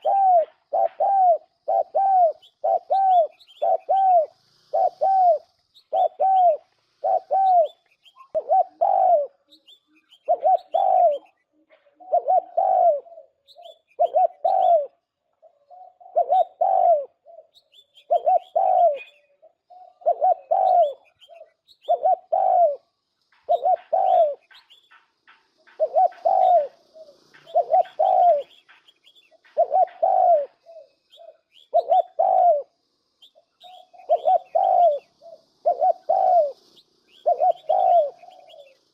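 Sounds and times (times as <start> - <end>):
dove cooing through a speaker: 0.0 - 24.6, 25.6 - 28.7, 29.4 - 32.8, 33.5 - 38.9
faint bird chirps: 0.0 - 38.9.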